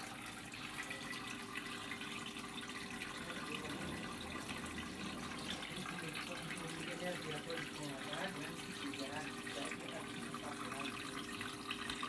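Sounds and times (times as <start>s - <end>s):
washing machine filling with water: 0.0s - 12.0s.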